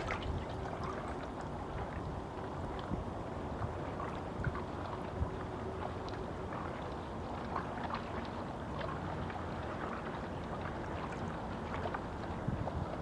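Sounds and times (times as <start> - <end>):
small waves lapping and splashing: 0.0 - 13.0
wind: 0.0 - 13.0.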